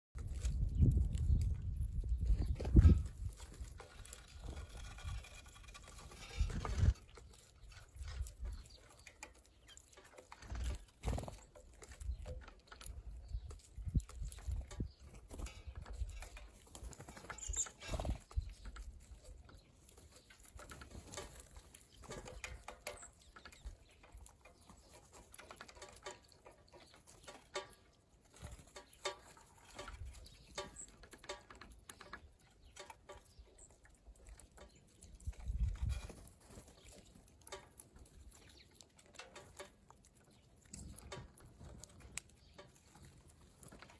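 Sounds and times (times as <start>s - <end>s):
beaks pecking at seed: 0.2s - 43.9s.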